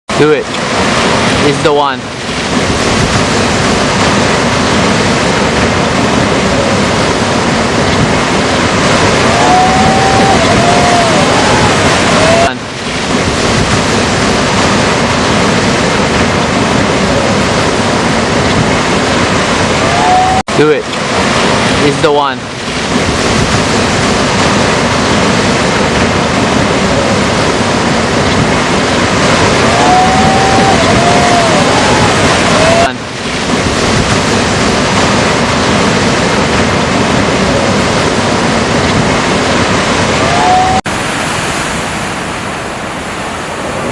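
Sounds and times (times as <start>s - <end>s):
loud rushing noise: 0.1s - 43.9s.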